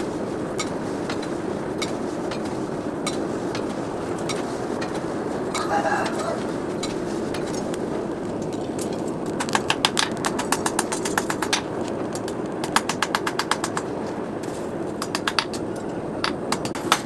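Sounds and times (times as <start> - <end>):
air rushing through forge fire: 0.0 - 17.0
charcoal crackling and popping: 0.0 - 17.0.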